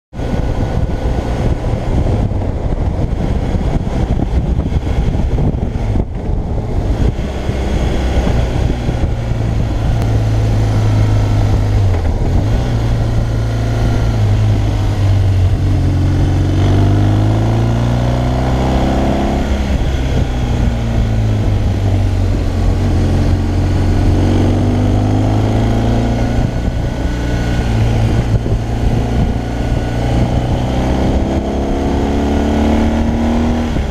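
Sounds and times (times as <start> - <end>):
motorcycle engine running: 0.1 - 33.9
wind noise: 0.1 - 33.9.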